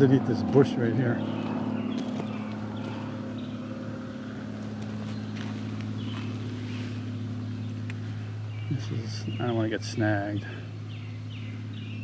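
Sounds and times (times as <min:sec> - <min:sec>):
airplane engine droning overhead: 0:00.0 - 0:12.0.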